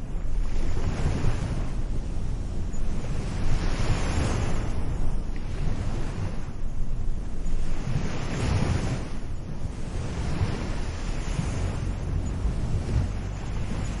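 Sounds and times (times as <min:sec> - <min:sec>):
waves breaking on a beach: 0:00.0 - 0:14.0
wind rumbling on microphone: 0:00.0 - 0:14.0.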